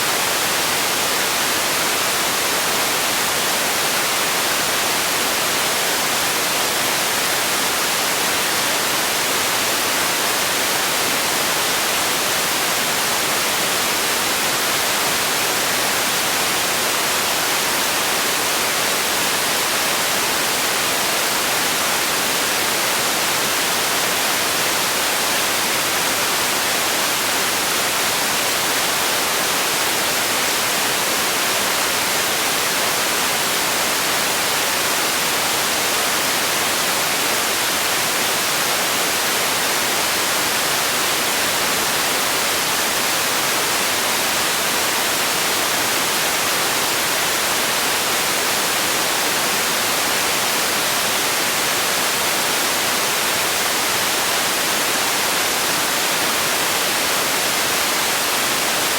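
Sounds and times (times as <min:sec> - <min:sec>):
steady bright hiss: 0:00.0 - 0:58.9.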